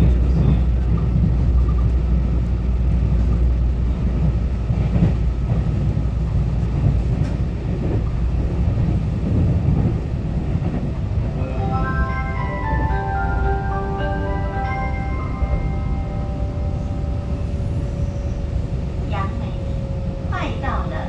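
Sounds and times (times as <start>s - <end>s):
train wheels on rail: 0.0s - 12.1s, 14.6s - 21.0s.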